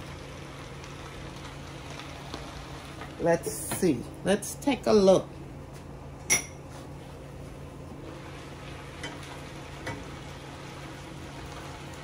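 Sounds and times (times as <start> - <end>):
stove hiss and hum: 0.0 - 12.0.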